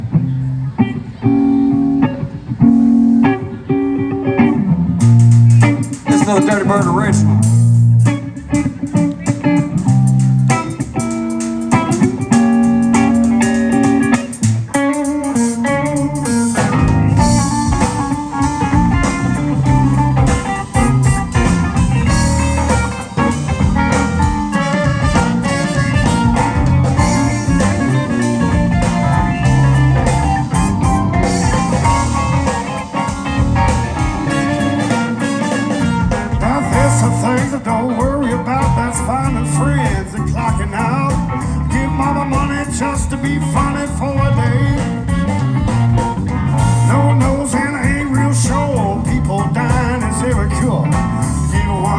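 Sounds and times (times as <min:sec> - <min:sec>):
blues band playing: 0:00.0 - 0:51.9
guitar and bass riff: 0:00.0 - 0:51.9
drum kit: 0:02.0 - 0:51.9.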